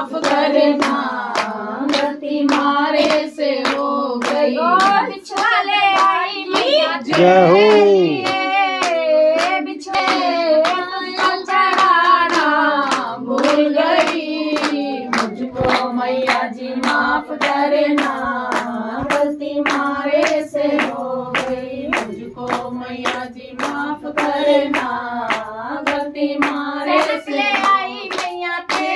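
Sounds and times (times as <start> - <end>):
person singing devotional song: 0.0 - 28.9
hand clapping: 0.1 - 28.9.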